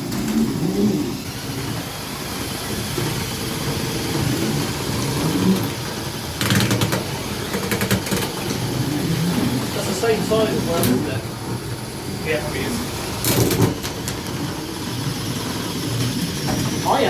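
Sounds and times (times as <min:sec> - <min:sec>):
electric motors whirring: 0:00.0 - 0:17.0.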